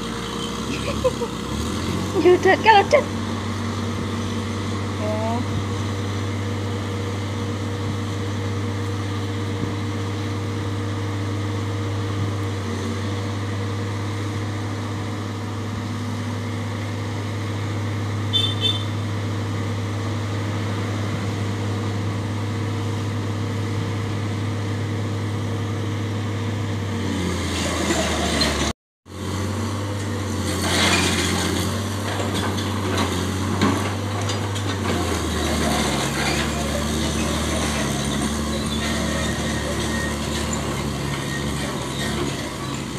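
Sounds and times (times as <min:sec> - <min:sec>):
excavator diesel engine labouring: 0:00.0 - 0:42.9.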